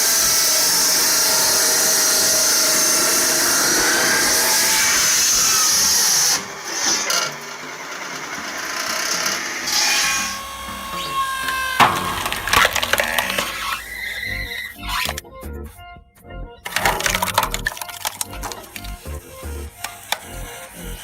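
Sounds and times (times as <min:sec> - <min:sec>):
shifting machine noise: 0:00.0 - 0:14.8, 0:16.6 - 0:21.0
power saw cutting wood: 0:00.0 - 0:15.2, 0:16.7 - 0:21.0.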